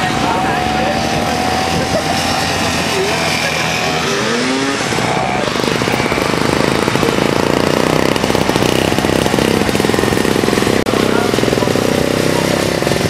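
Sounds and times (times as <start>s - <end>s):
snowmobile engine buzzing: 0.0s - 13.0s.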